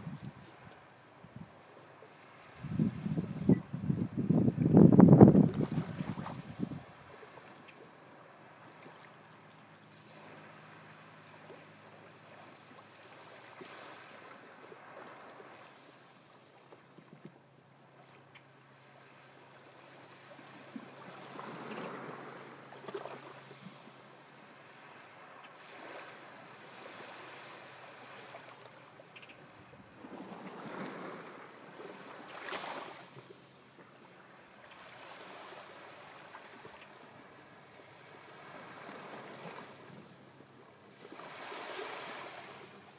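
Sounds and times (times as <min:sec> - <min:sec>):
small waves lapping on shore: 0:00.0 - 0:42.9.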